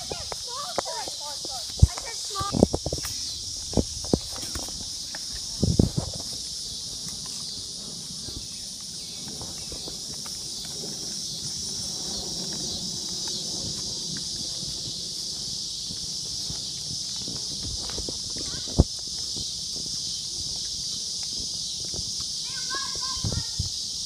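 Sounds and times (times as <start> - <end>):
feet running across grass: 0.0 - 23.6
high insect chorus: 0.0 - 24.0.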